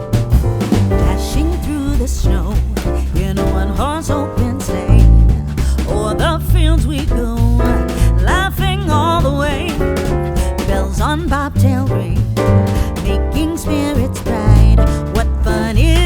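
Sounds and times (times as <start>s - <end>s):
song with singing and drums: 0.0s - 16.0s.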